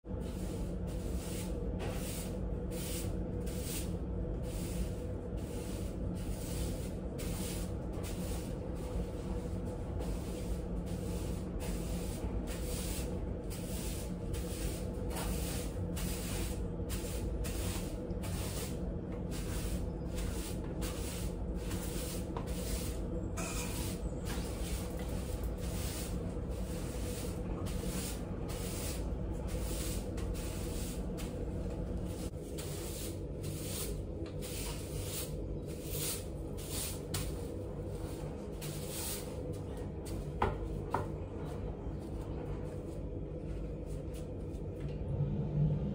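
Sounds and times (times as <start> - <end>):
broom sweeping tiled floor: 0.1 - 44.9.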